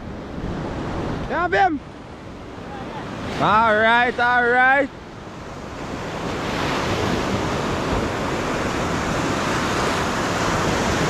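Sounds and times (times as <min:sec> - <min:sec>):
sea surf washing: 0:00.0 - 0:11.0.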